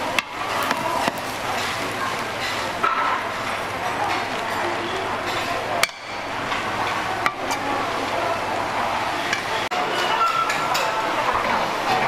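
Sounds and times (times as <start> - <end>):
kitchen background noise: 0.0 - 12.0.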